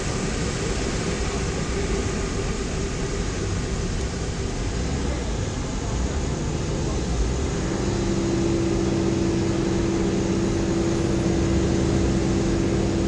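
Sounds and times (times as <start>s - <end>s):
jet engines rumbling: 0.0s - 13.0s
steady low hum: 0.0s - 13.0s.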